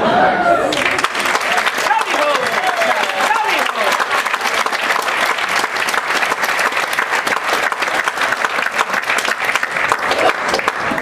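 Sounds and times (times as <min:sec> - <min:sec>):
audience applauding: 0:00.7 - 0:11.0.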